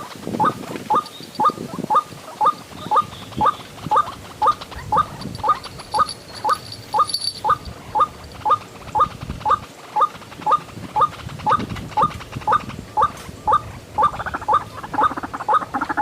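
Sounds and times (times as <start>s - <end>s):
waterhen calling: 0.0s - 16.0s.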